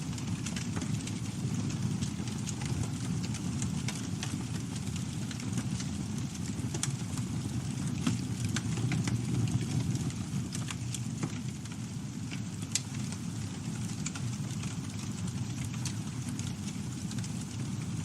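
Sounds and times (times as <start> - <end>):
campfire flames rushing: 0.0 - 18.0
fire crackles and pops: 0.0 - 18.0.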